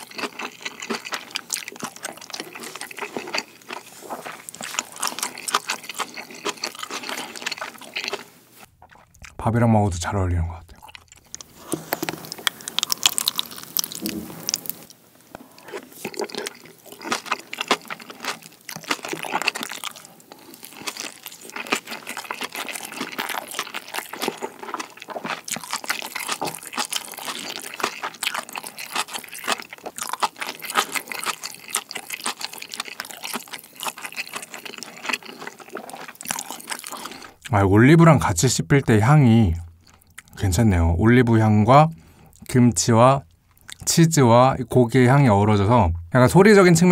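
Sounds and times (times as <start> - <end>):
crisp food crunching: 0.0 - 9.4, 10.7 - 37.5, 39.5 - 40.4, 43.2 - 43.9
wet chewing mouth sounds: 0.0 - 9.4, 10.7 - 37.5, 39.6 - 40.4, 43.2 - 43.9.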